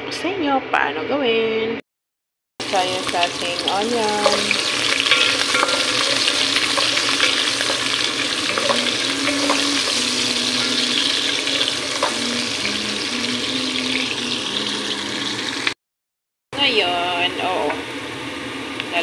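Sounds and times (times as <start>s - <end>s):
onions sizzling in hot oil: 2.6s - 15.8s, 16.6s - 19.0s.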